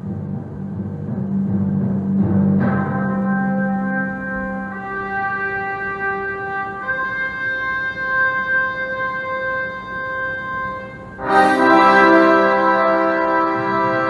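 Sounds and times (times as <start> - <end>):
sustained instrumental chords: 0.0 - 14.0.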